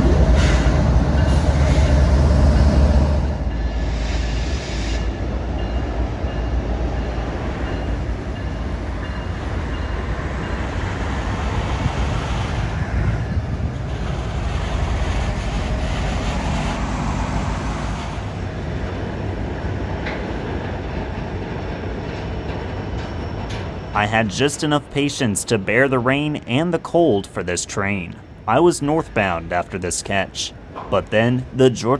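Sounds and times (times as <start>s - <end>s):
train rolling past on track: 0.0s - 31.9s.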